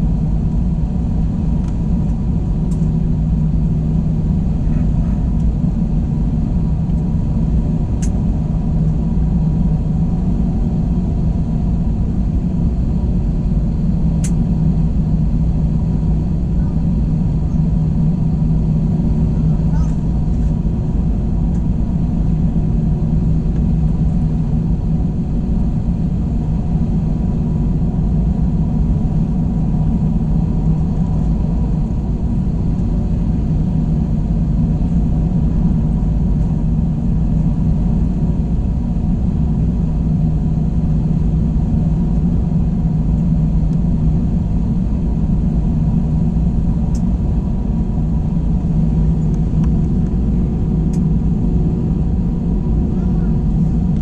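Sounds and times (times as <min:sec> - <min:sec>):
airliner cabin rumble: 0:00.0 - 0:54.0
steady low hum: 0:00.0 - 0:54.0.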